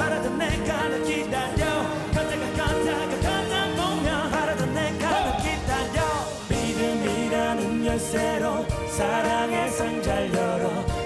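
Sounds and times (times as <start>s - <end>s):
drums: 0.0s - 11.0s
man singing: 0.0s - 11.0s
string section: 0.0s - 11.0s.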